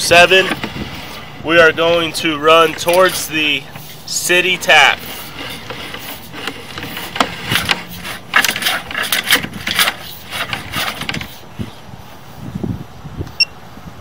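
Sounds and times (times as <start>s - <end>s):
cable scraping in drain pipe: 0.0s - 11.8s.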